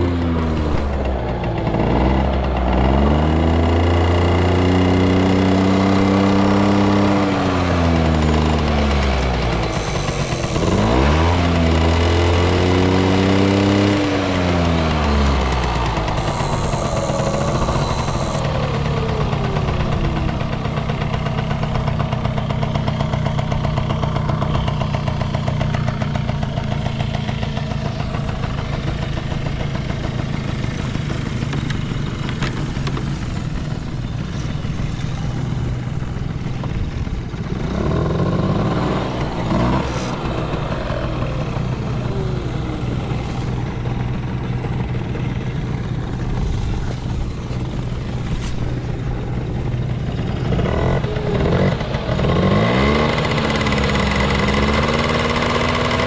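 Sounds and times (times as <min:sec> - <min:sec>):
scooter engine idling and revving: 0:00.0 - 0:56.0.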